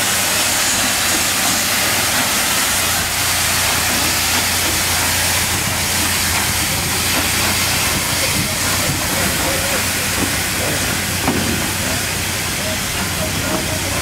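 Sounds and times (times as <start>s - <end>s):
steam hissing from locomotive: 0.0s - 14.0s.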